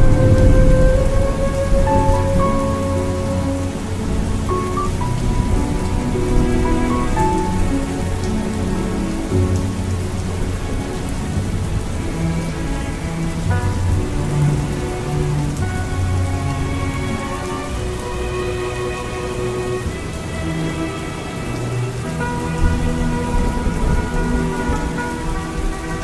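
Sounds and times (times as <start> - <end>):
slow soft music: 0.0 - 26.0
steady rain: 0.0 - 26.0
thunder rumbling: 0.0 - 26.0.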